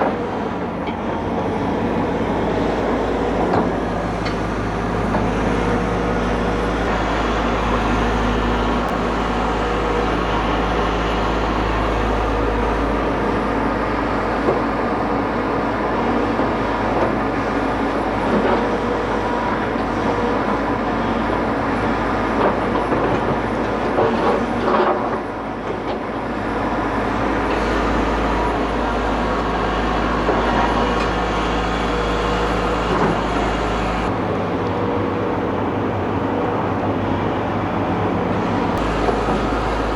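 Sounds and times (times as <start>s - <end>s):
excavator diesel engine running: 0.0s - 24.9s, 26.0s - 39.9s.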